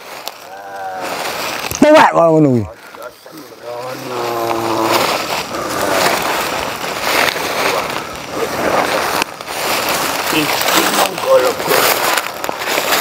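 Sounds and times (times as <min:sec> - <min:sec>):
rough hissing with crackles: 0:00.0 - 0:13.0.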